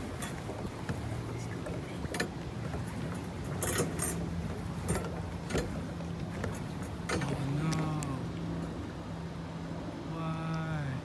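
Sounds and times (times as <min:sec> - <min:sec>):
sharp knocks and splashes: 0:00.0 - 0:09.0
paddlewheel churning water: 0:00.0 - 0:11.0.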